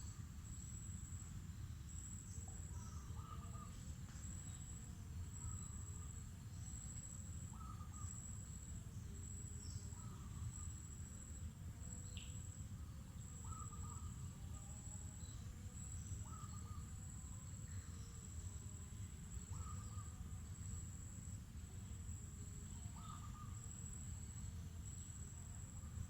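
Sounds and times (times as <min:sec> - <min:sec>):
insects trilling: 0:00.0 - 0:26.0
short insect calls: 0:00.0 - 0:26.0.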